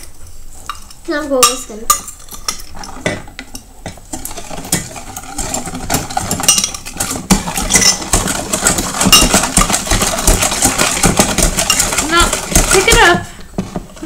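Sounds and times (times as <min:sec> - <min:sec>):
beaters rattling against glass: 0:00.6 - 0:13.3.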